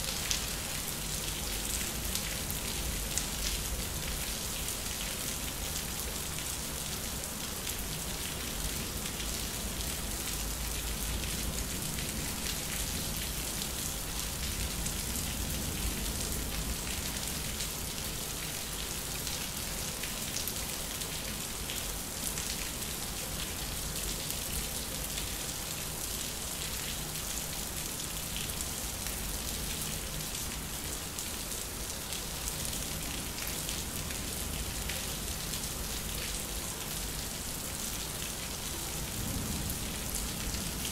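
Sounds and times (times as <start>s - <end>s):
rain spattering on concrete: 0.0s - 40.9s.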